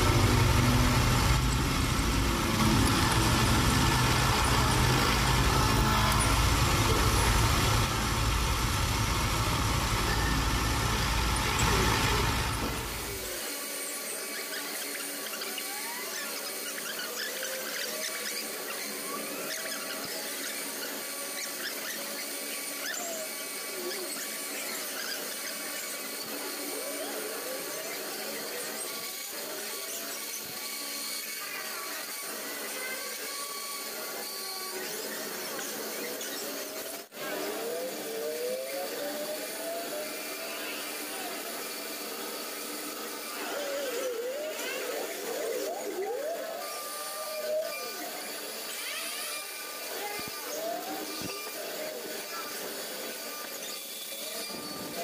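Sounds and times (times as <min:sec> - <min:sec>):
cutting tool squealing: 0:00.0 - 0:55.0
metal lathe hum: 0:00.0 - 0:55.0.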